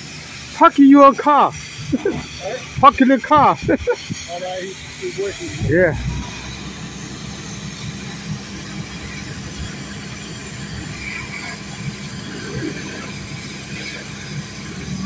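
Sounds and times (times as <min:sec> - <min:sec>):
forklift running: 0:00.0 - 0:15.0.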